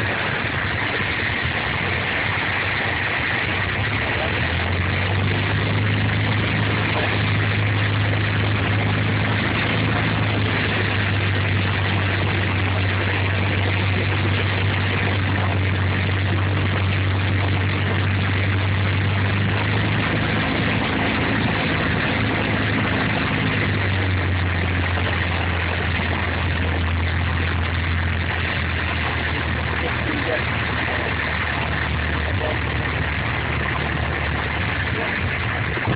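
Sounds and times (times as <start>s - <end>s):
aircraft engine and propeller drone: 0.0s - 35.9s.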